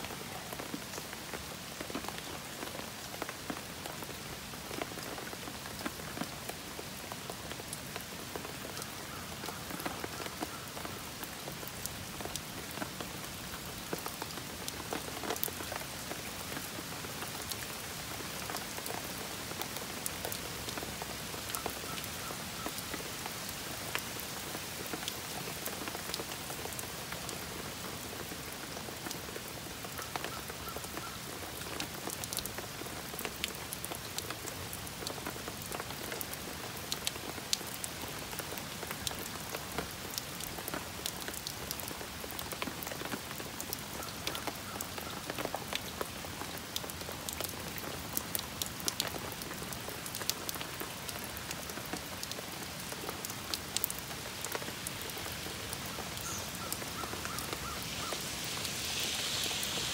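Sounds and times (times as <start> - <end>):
heavy rain falling: 0.0 - 59.9
raindrops ticking close by: 0.0 - 59.9.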